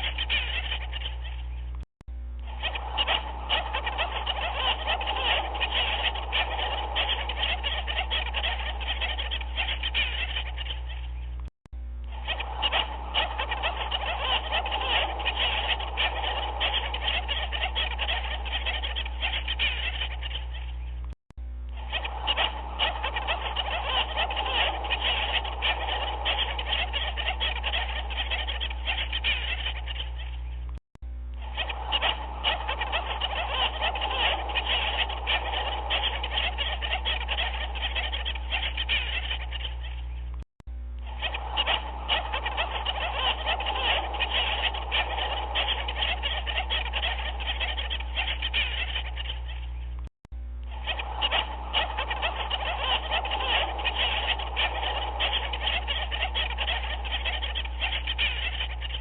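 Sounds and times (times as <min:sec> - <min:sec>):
penguins squawking and chattering: 0:00.0 - 0:01.7, 0:02.5 - 0:11.4, 0:12.1 - 0:21.0, 0:21.7 - 0:30.6, 0:31.4 - 0:40.4, 0:41.1 - 0:50.0, 0:50.7 - 0:59.0
chorus of croaking animals: 0:00.0 - 0:01.8, 0:02.4 - 0:11.4, 0:12.0 - 0:21.1, 0:21.7 - 0:30.8, 0:31.4 - 0:40.4, 0:41.0 - 0:50.0, 0:50.7 - 0:59.0
steady low hum: 0:00.0 - 0:59.0.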